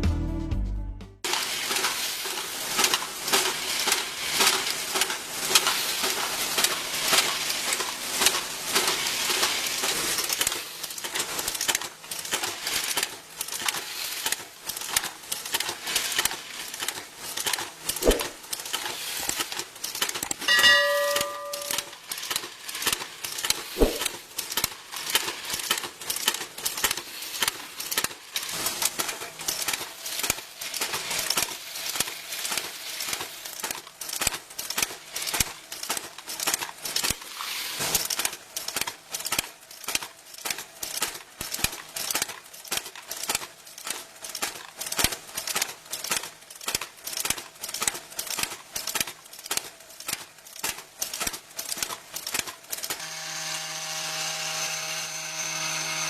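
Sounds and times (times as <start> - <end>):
machinery clicking and clattering: 1.3 - 53.0
small metal parts rattling: 1.3 - 53.0.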